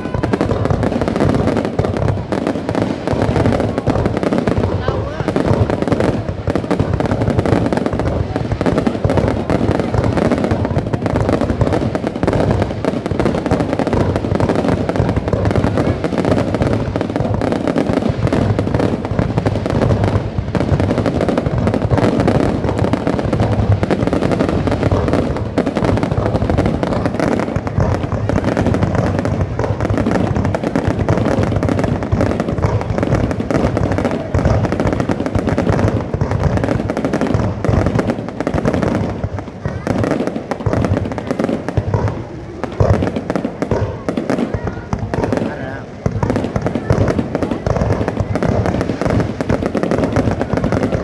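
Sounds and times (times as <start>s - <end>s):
fireworks bursts and crackling: 0.0s - 51.0s.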